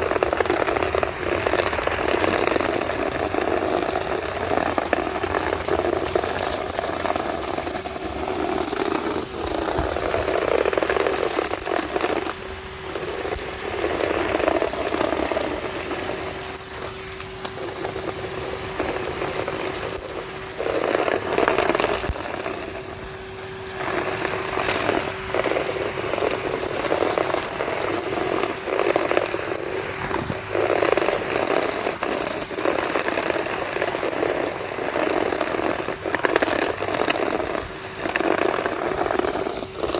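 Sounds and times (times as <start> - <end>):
grit rattling up vacuum hose: 0.0 - 39.9
vacuum cleaner motor hum: 0.0 - 39.9.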